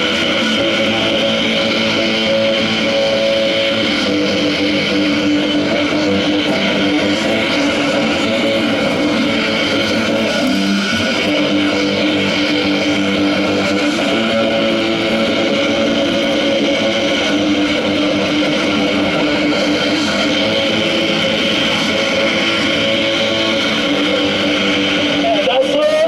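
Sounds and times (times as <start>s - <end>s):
distorted electric guitar droning: 0.0s - 26.0s.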